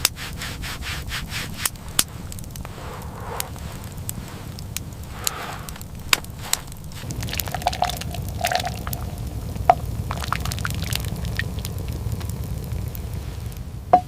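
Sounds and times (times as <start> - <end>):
sharp cracks and crackles: 0.0 - 13.7
low rumble: 1.8 - 14.0.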